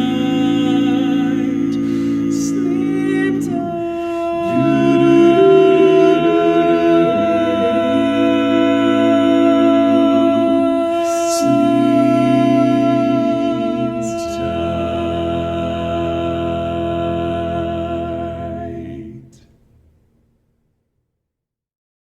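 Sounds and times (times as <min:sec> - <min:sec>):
men singing in harmony: 0:00.0 - 0:19.4.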